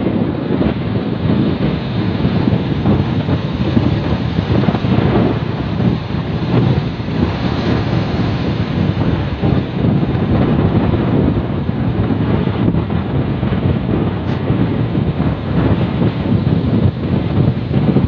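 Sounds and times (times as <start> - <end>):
heavy surf: 0.0 - 18.0
wind buffeting microphone: 0.0 - 18.0.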